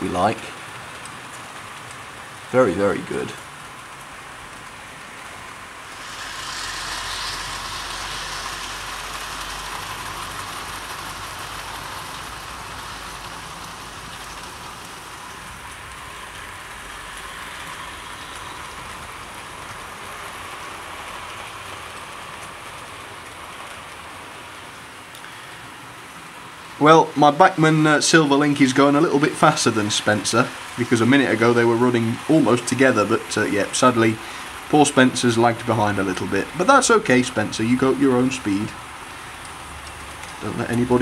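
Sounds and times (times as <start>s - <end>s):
model train wheels on rails: 0.0s - 41.0s.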